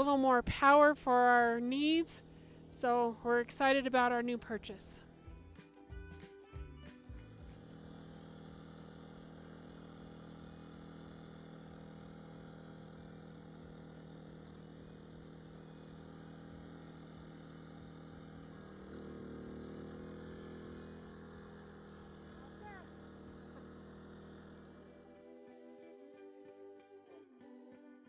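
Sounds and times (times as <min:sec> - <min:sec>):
portable generator running: 0:00.0 - 0:26.2.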